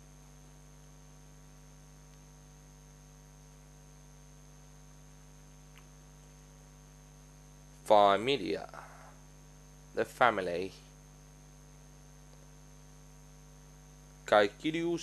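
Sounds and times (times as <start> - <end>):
faint mains hum: 0.0 - 15.0
thin high whine: 0.0 - 15.0.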